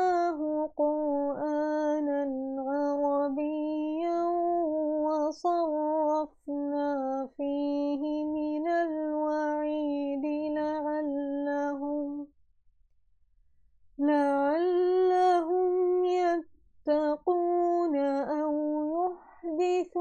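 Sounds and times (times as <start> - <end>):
woman chanting melodically: 0.0 - 12.3, 14.0 - 20.0.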